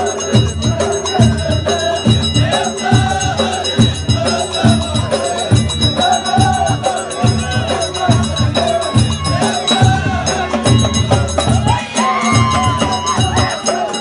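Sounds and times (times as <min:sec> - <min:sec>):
drum beats: 0:00.0 - 0:14.0
voices singing a melody: 0:00.0 - 0:14.0.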